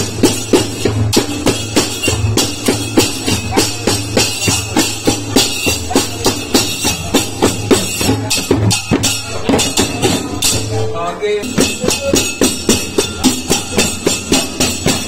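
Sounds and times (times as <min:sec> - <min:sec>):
clay pot drums played by hand: 0:00.0 - 0:15.0.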